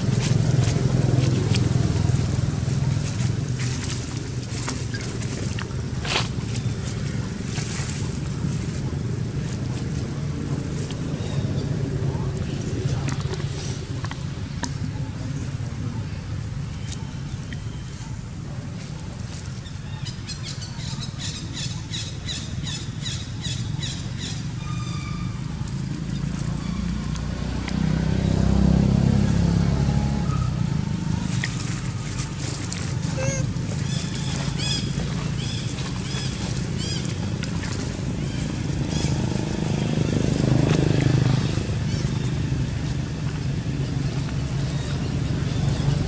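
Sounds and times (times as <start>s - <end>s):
low engine-like hum: 0.0s - 46.0s.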